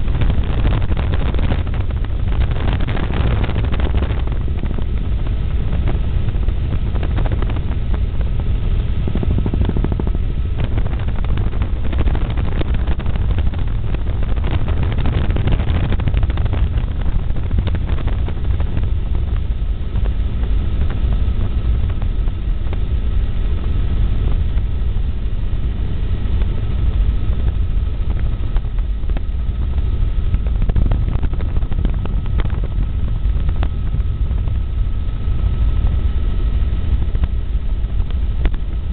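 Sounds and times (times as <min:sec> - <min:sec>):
helicopter rotor and engine rumble: 0:00.0 - 0:38.9
thin steady whine: 0:00.0 - 0:38.9.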